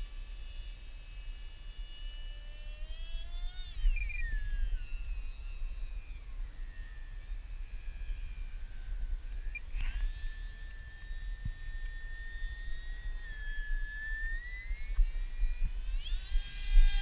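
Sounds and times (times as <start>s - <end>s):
electric motor and propeller whining: 0.0s - 17.0s
wind rumble on microphone: 0.0s - 17.0s.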